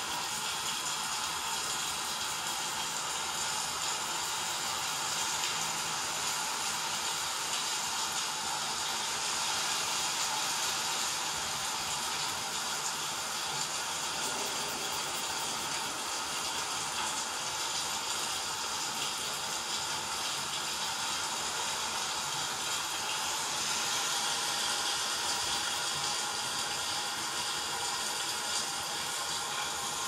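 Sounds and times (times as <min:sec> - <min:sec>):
rain: 0:00.0 - 0:30.0.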